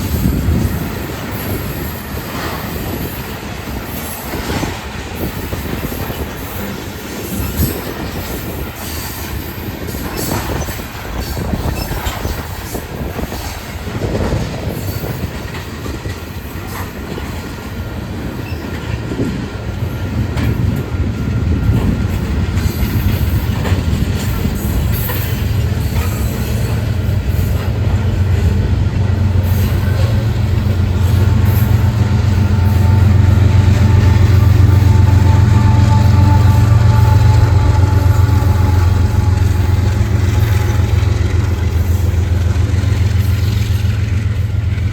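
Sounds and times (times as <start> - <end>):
train wheels clattering over rail joints: 0.0 - 44.9.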